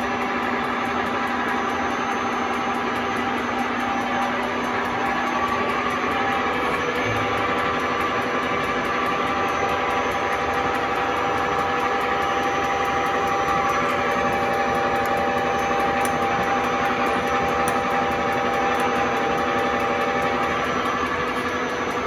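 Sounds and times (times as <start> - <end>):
milling machine humming: 0.0 - 22.0.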